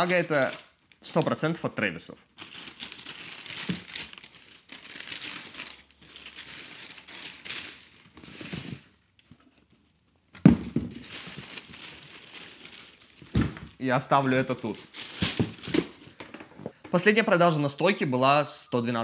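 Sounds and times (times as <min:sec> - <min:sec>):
tissue paper crinkling: 0:00.0 - 0:01.4, 0:02.3 - 0:16.2.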